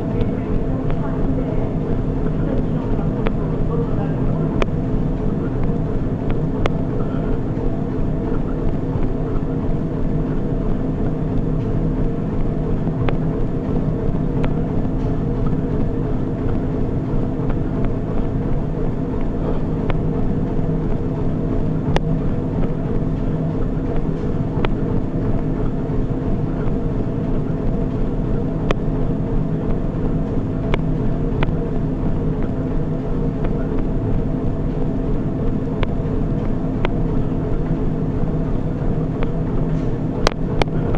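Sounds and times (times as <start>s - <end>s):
treadmill motor and belt hum: 0.0s - 40.9s.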